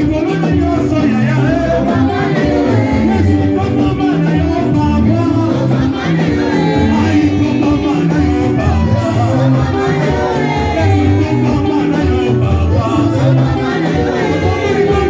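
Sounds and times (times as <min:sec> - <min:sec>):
bass line repeated notes: 0:00.0 - 0:15.0
voices singing: 0:00.0 - 0:15.0.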